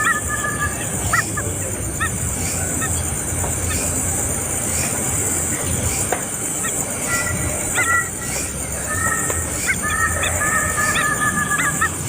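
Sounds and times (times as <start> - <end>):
bird chirping: 0.0 - 12.0
high-pitched buzz: 0.0 - 12.0.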